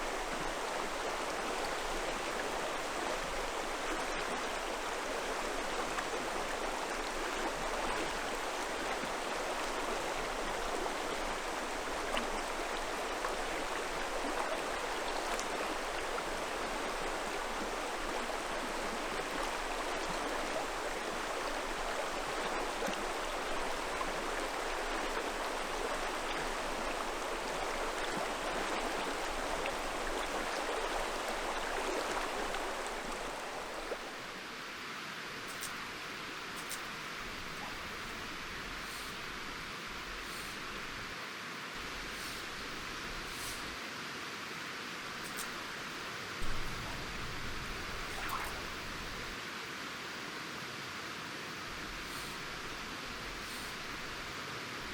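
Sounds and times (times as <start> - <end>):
river water rushing: 0.0 - 49.4.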